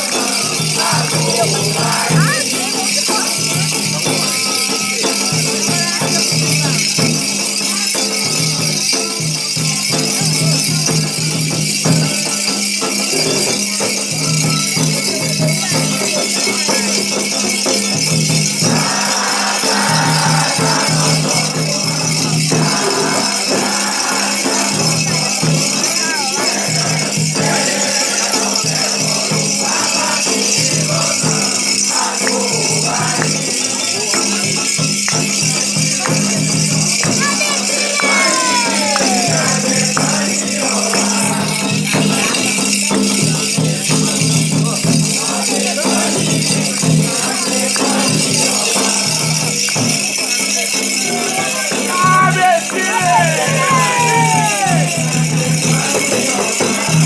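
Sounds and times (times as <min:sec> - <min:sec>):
drum strokes: 0:00.0 - 0:57.0
rattles shaking: 0:00.0 - 0:57.0
voices singing: 0:00.0 - 0:57.0.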